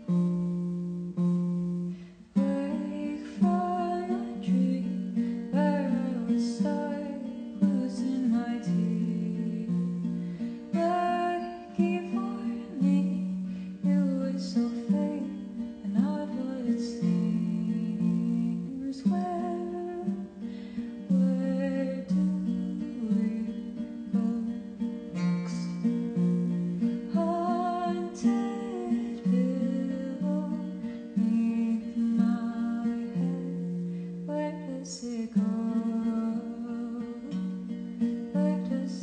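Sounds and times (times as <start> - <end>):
acoustic guitar chords: 0.0 - 39.0
person singing: 2.3 - 37.6, 38.3 - 39.0.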